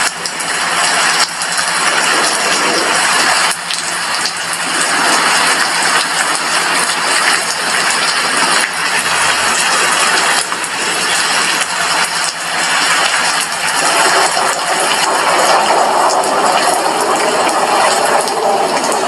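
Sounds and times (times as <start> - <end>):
rain on a glass window: 0.0 - 19.0.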